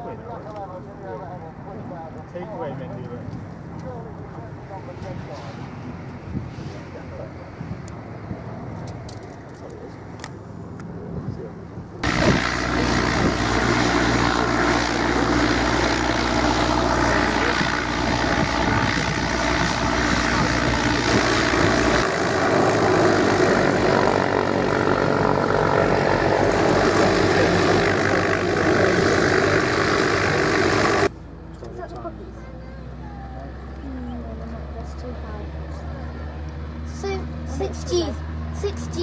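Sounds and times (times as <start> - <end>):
propeller engine running: 0.1 - 39.0.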